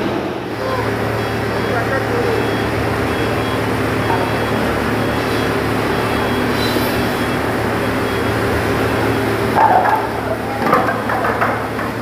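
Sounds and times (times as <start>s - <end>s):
forklift engine droning: 0.0s - 12.0s.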